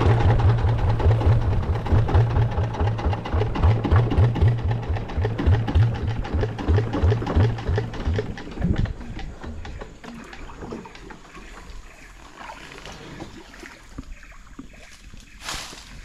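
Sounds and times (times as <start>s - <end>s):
water lapping against hull: 0.0s - 16.0s.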